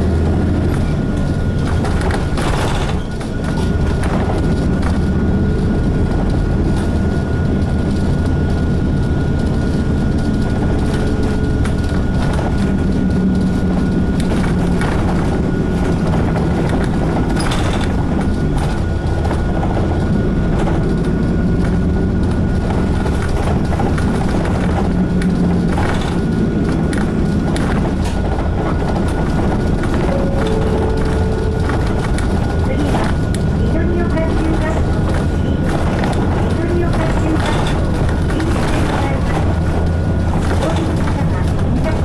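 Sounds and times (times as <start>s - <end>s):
bus engine drone: 0.0s - 42.0s
road noise: 0.0s - 42.0s.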